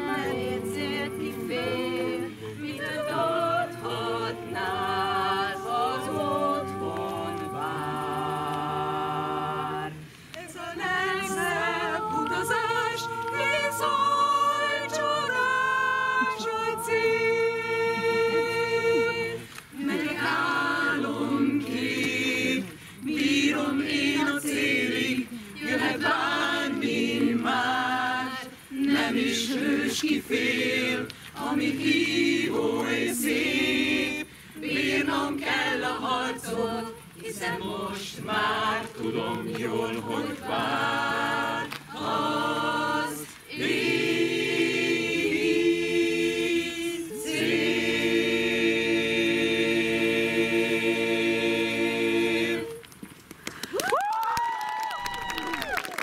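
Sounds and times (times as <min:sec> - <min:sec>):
choir singing a cappella: 0:00.0 - 0:53.1.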